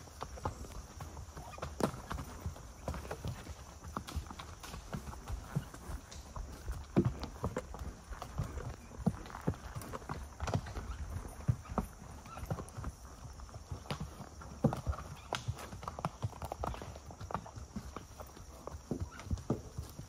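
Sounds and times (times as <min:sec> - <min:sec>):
horse hooves on dirt trail: 0:00.0 - 0:20.0.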